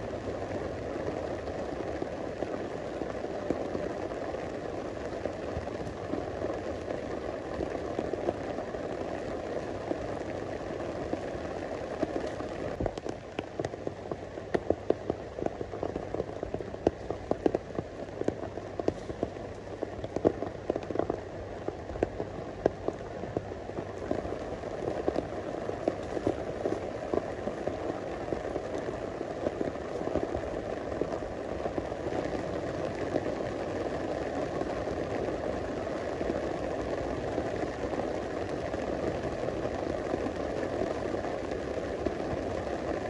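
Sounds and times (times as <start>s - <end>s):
steady rain falling: 0.0s - 43.0s
sharp taps of raindrops: 0.4s - 43.0s.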